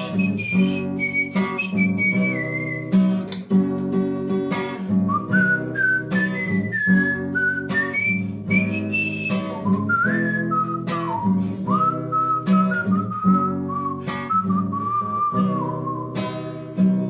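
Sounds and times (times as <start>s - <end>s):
whistled melody: 0.0s - 3.3s, 4.6s - 16.9s
acoustic guitar strumming chords: 0.0s - 17.0s.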